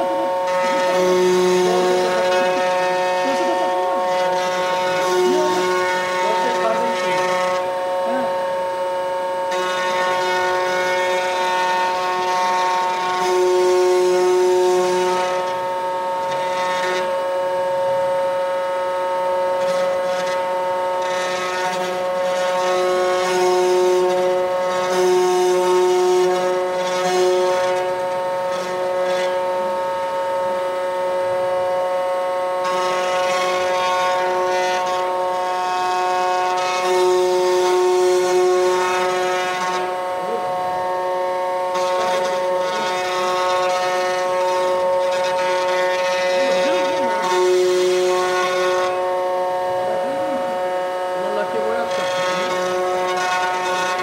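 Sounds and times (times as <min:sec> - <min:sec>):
hissy cutting noise: 0:00.0 - 0:54.0
router spindle high whine: 0:00.0 - 0:54.0.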